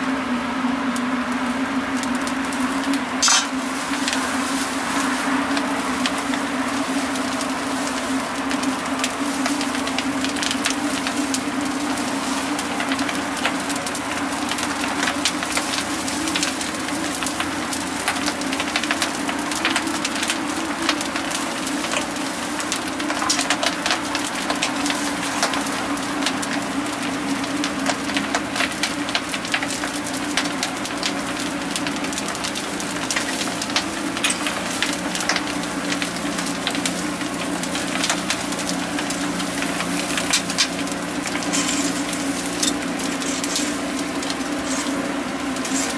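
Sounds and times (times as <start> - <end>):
straw fire crackling and popping: 0.9 - 45.9.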